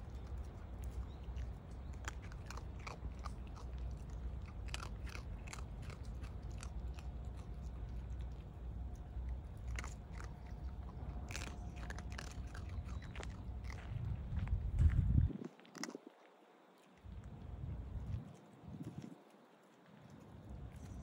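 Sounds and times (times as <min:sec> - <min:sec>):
steady low rumble: 0:00.0 - 0:16.2, 0:17.0 - 0:19.2, 0:19.9 - 0:21.0
animals crunching dry kibble: 0:00.0 - 0:21.0.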